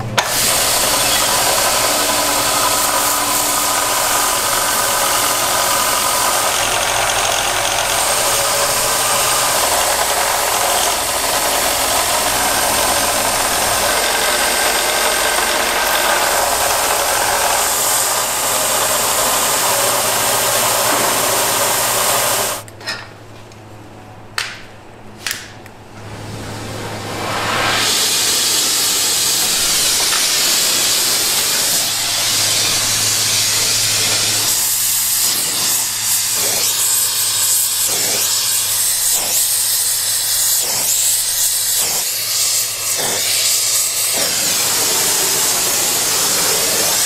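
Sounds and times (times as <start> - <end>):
belt grinder grinding steel: 0.2 - 22.6, 27.7 - 47.0.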